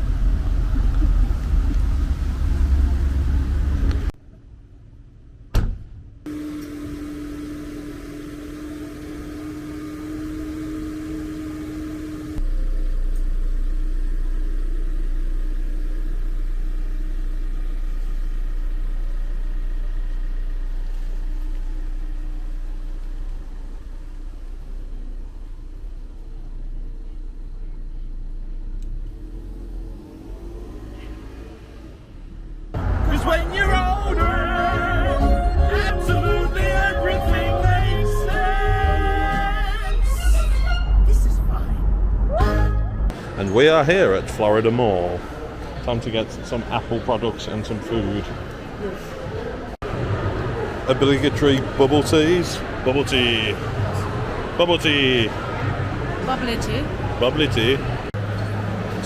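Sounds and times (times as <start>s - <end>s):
car driving drone: 0.0s - 4.4s, 6.2s - 59.0s
car engine rumbling: 0.0s - 59.0s.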